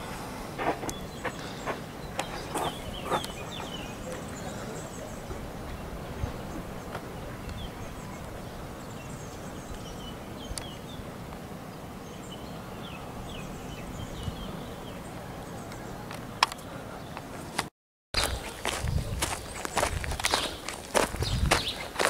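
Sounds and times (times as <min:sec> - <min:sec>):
small birds chirping: 0:00.0 - 0:17.6, 0:18.2 - 0:22.0
outdoor background rush: 0:00.0 - 0:22.0.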